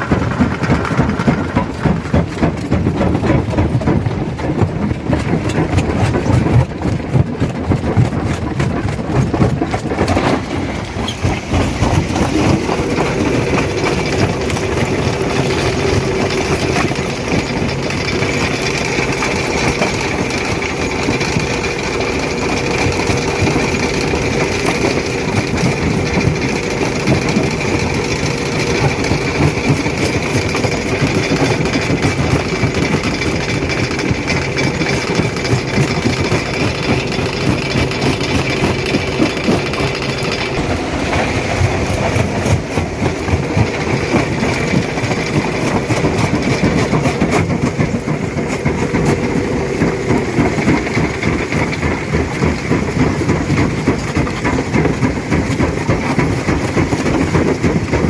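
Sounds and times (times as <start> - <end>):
stone crusher crushing rock: 0.0 - 58.0.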